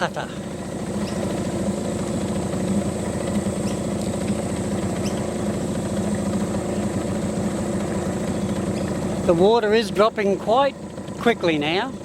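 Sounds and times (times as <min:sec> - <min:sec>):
outboard motor putter: 0:00.0 - 0:12.0.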